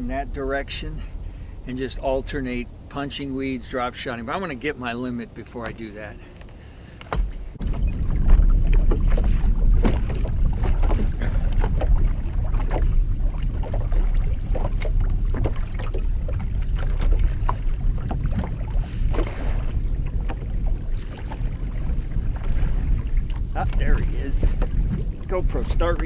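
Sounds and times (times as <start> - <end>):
wind rumbling on microphone: 0.0 - 4.8, 5.6 - 26.0
water splashing against boat hull: 4.4 - 26.0.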